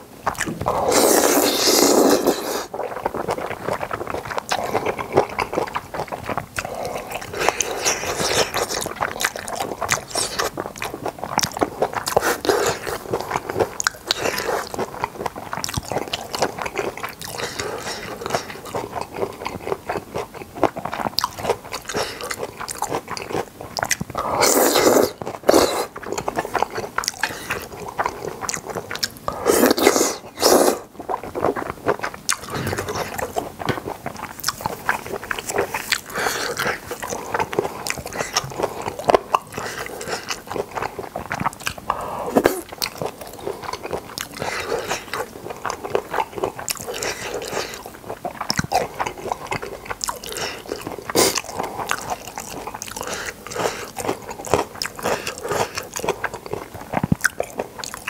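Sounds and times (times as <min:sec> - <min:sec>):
crunchy chewing: 0:00.2 - 0:58.0.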